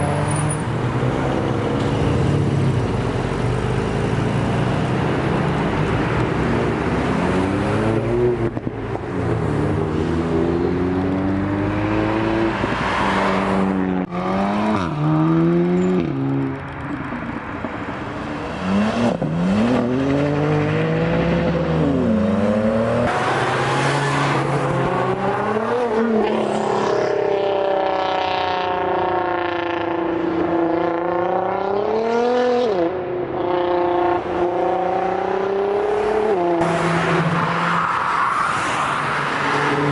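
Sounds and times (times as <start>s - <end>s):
vehicles accelerating past: 0.0s - 39.9s.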